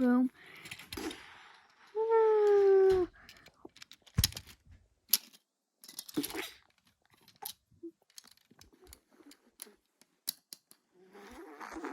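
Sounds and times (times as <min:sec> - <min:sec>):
plastic pieces clattering and clicking: 0:00.5 - 0:10.8.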